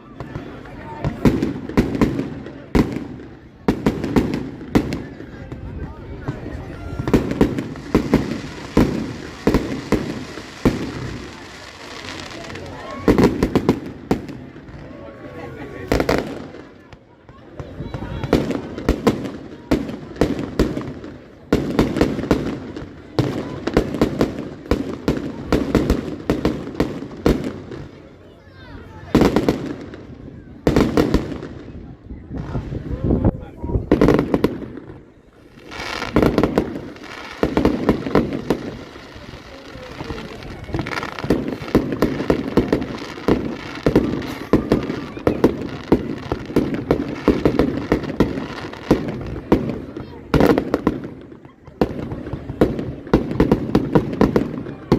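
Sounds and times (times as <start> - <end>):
fireworks bangs: 0.0 - 28.2, 28.8 - 54.9
fireworks rumbling crackle: 0.0 - 54.9.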